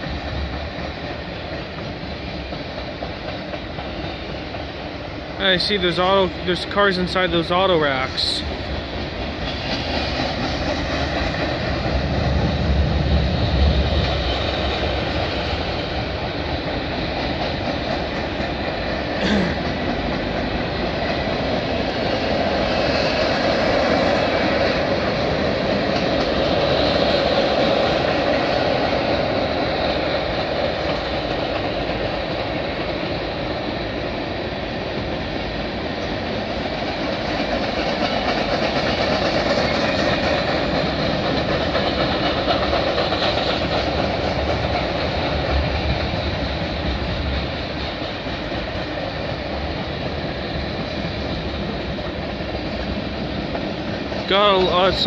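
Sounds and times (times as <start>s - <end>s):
train wheels rumbling on bridge: 0.0s - 55.0s.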